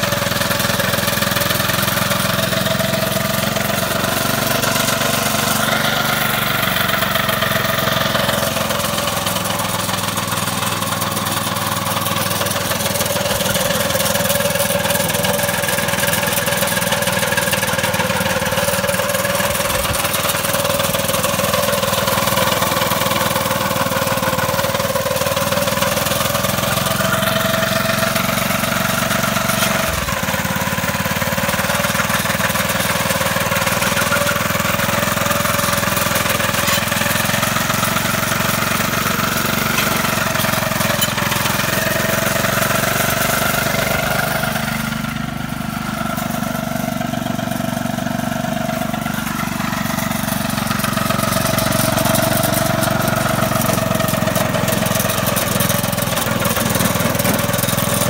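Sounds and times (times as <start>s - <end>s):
snowblower engine running: 0.0s - 58.0s.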